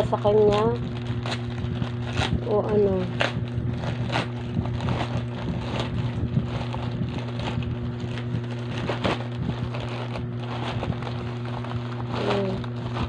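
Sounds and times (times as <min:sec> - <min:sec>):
plastic pouch crinkling: 0:00.0 - 0:13.0
steady low hum: 0:00.0 - 0:13.0.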